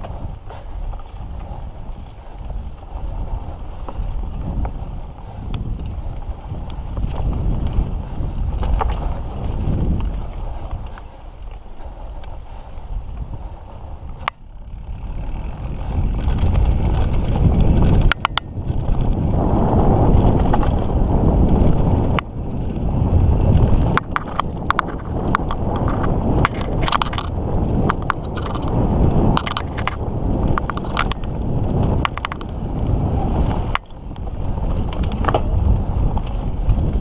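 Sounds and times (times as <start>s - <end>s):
bike chain and frame rattling: 0.0s - 37.0s
bike tyre noise on dirt: 0.0s - 37.0s
wind rumbling on microphone: 0.0s - 37.0s.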